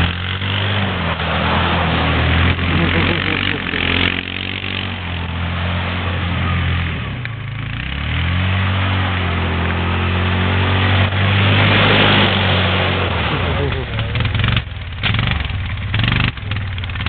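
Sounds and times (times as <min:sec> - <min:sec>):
distant atv riding: 0:00.0 - 0:17.0
quad engine idling: 0:00.0 - 0:17.0.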